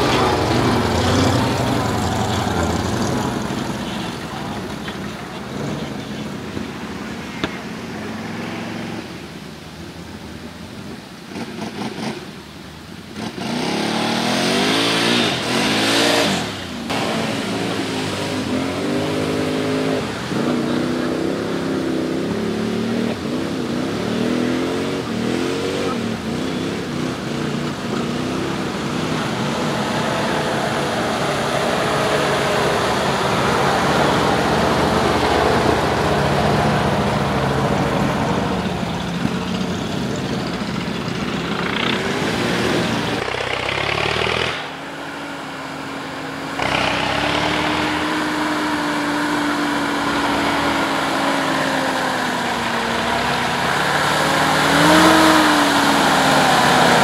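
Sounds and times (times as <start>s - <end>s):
truck engine revving: 0.0s - 9.1s, 11.3s - 57.0s.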